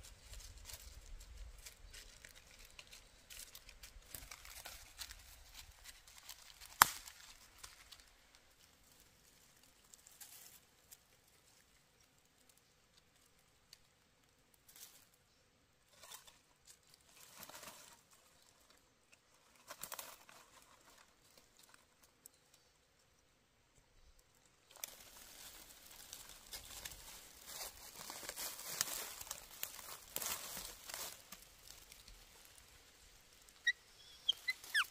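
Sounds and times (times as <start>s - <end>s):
dry leaves rustling and crackling: 0.0s - 13.9s, 14.6s - 15.2s, 15.9s - 22.1s, 24.6s - 34.9s.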